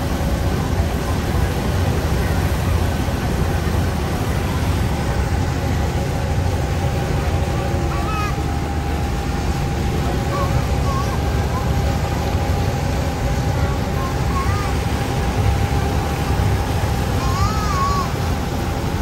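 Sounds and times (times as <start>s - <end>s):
boat engines rumbling: 0.0s - 19.0s
faint hum: 0.0s - 19.0s
water rushing: 0.0s - 19.0s.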